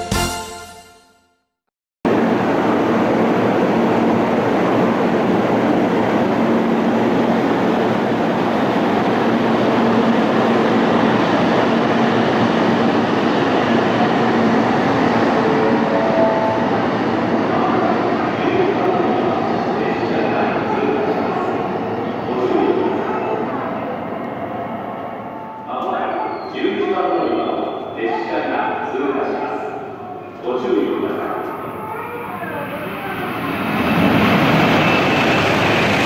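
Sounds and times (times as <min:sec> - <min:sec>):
train rushing noise: 0:02.1 - 0:36.0.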